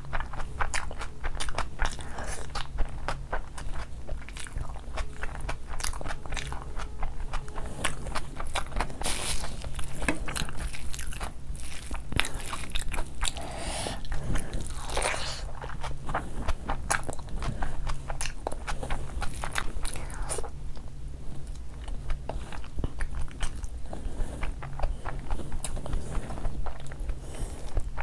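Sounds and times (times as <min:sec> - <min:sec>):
chewing and biting with crunches: 0:00.0 - 0:28.0.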